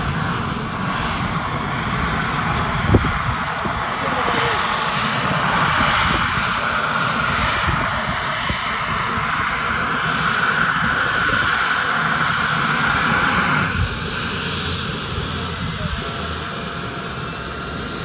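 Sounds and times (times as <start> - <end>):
helicopter turbine whine: 0.0 - 18.0.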